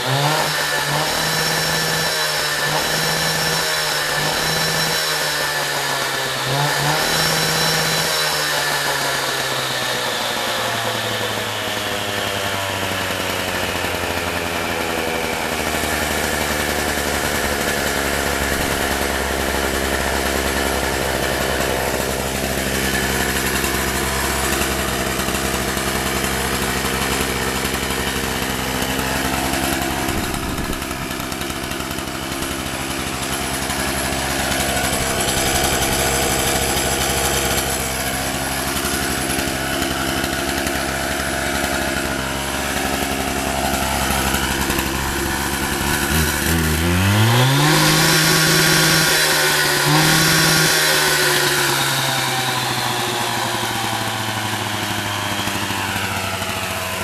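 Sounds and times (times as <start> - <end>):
cut-off saw idling and revving: 0.0 - 57.0.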